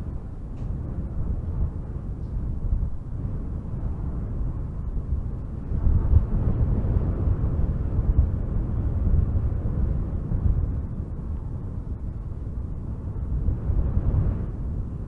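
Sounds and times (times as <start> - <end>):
strong wind gusting through trees: 0.0 - 15.0.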